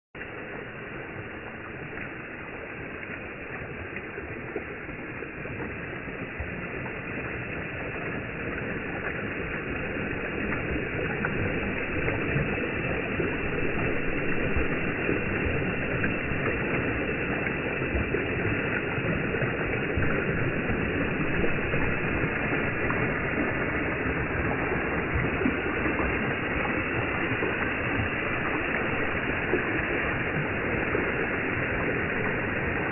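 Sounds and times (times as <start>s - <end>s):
pond waterfall splashing: 0.2s - 32.9s.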